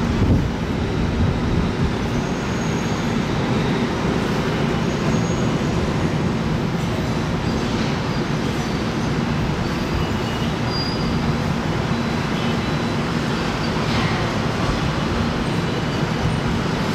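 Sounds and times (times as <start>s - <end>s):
road traffic: 0.0s - 16.9s.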